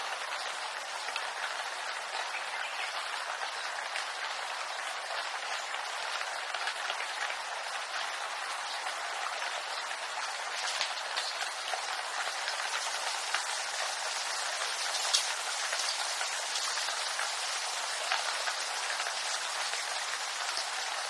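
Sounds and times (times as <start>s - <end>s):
rain pattering on leaves: 0.0s - 21.0s.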